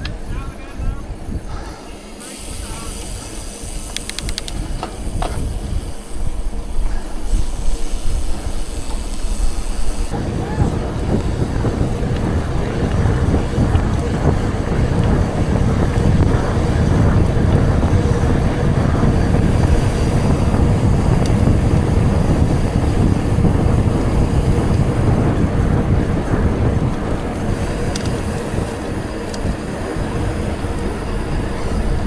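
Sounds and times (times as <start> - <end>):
bike tyre and drivetrain noise: 0.0 - 32.0
wind buffeting microphone: 0.0 - 32.0.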